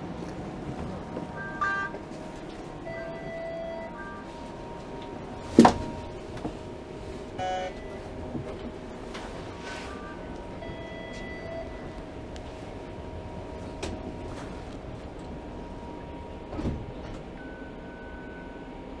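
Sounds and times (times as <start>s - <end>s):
streetcar electric tones: 0.0s - 19.0s
streetcar running noise: 0.0s - 19.0s.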